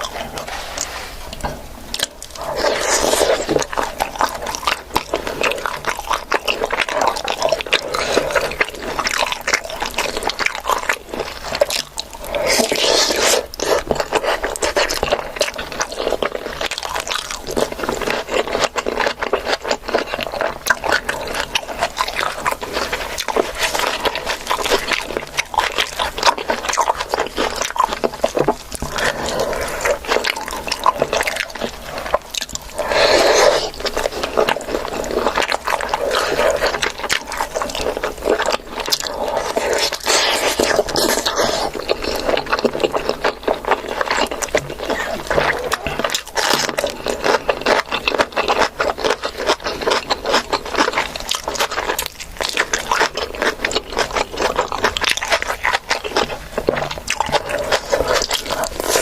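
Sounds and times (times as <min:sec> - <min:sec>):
person chewing wetly: 0:00.0 - 0:59.0.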